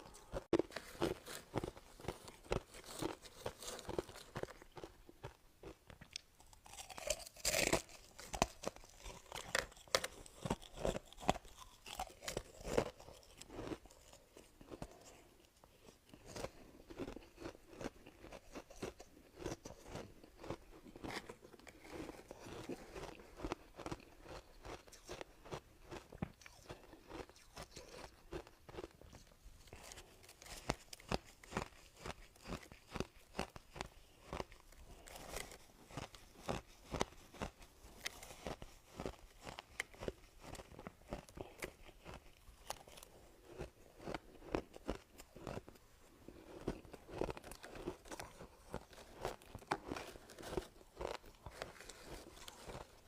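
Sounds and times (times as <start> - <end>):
person chewing crunchy ice: 0.0 - 53.0.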